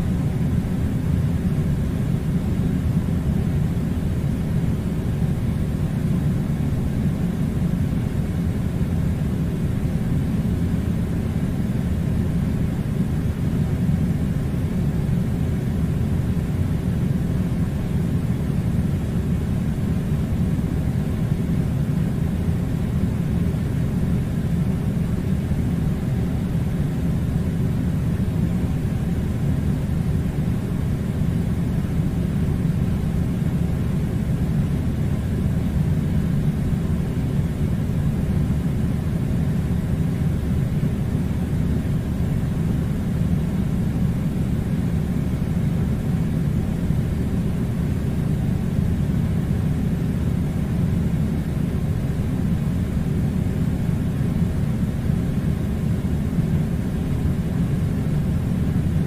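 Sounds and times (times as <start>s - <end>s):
air conditioner rumble: 0.0s - 59.0s.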